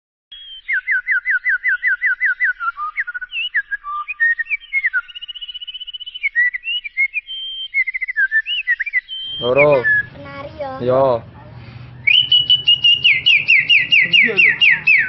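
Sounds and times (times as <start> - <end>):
person whistling birdsong: 0.3 - 10.2, 11.9 - 15.0.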